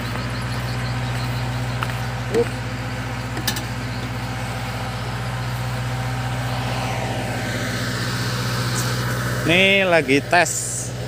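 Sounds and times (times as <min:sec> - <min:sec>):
pellet machine engine drone: 0:00.0 - 0:11.0.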